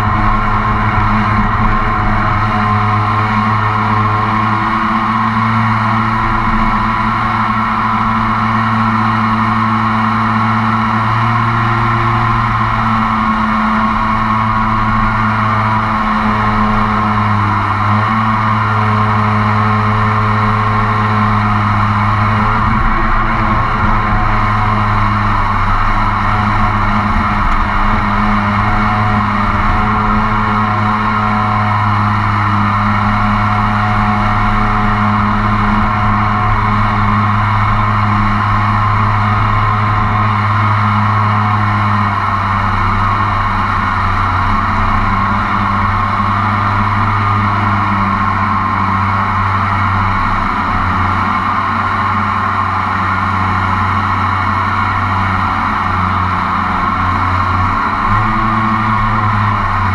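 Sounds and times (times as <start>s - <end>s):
jet boat engine running: 0.0s - 59.9s.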